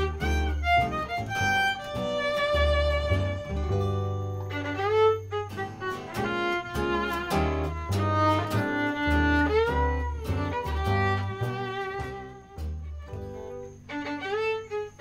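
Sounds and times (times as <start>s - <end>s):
strummed guitar chords: 0.0s - 15.0s
violin melody: 0.0s - 15.0s
walking double bass: 0.0s - 15.0s.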